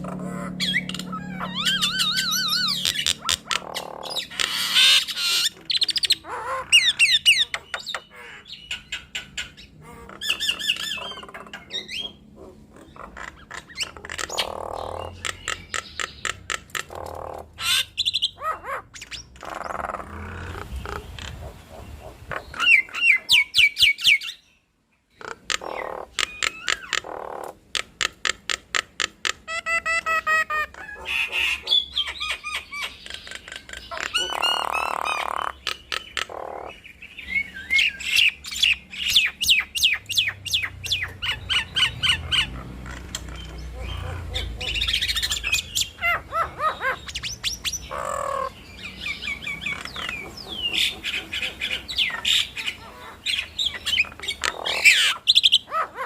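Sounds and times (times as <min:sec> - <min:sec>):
starlings calling: 0:00.0 - 0:56.0.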